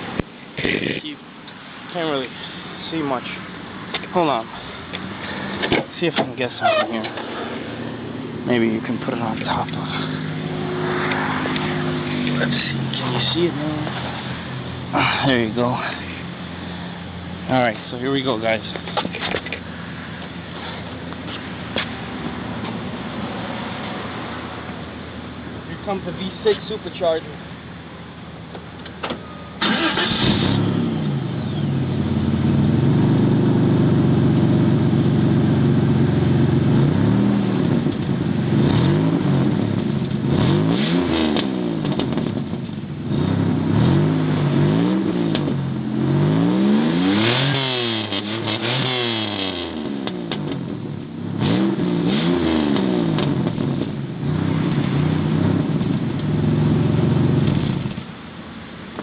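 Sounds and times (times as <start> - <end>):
car engine revving: 0.0 - 28.4, 29.6 - 58.1.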